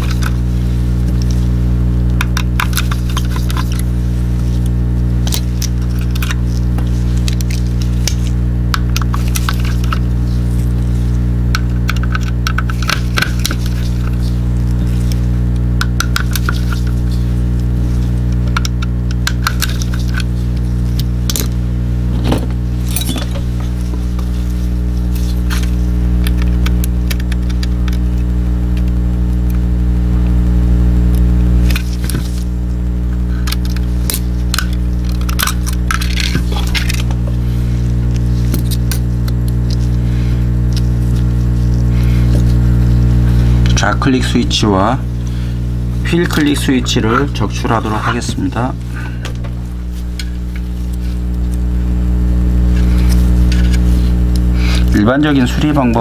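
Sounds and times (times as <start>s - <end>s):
steady low drone: 0.0s - 56.0s.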